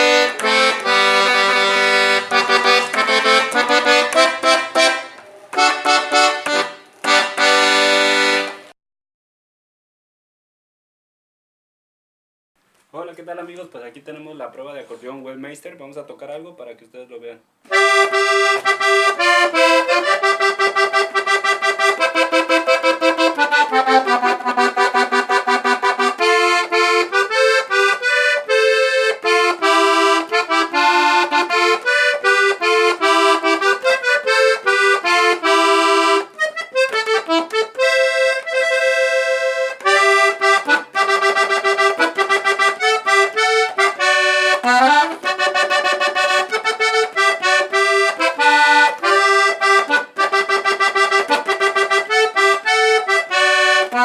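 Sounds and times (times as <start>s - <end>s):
accordion playing quick melody: 0.0s - 8.8s, 17.7s - 54.0s.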